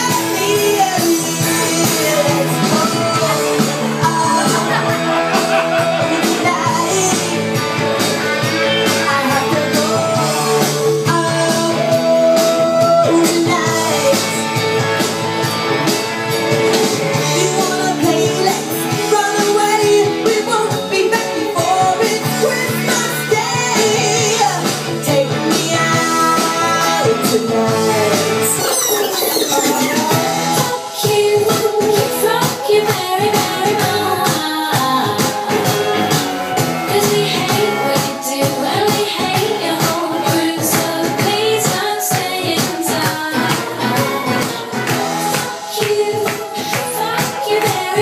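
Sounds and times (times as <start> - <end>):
pop-rock song over sound system: 0.0 - 48.0.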